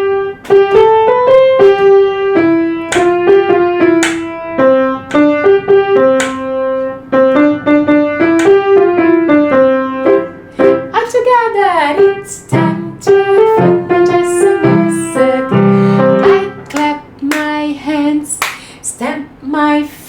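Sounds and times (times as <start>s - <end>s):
piano keyboard melody: 0.0s - 17.4s.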